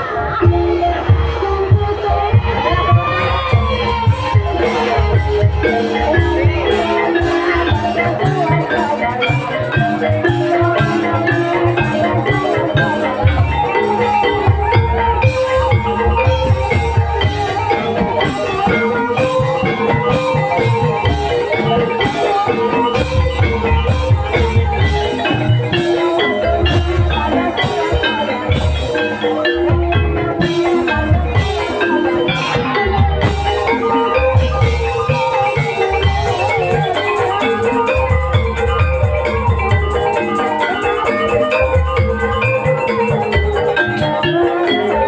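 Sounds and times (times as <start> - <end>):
drum beats: 0.0 - 45.0
metallophones playing melody: 0.0 - 45.0.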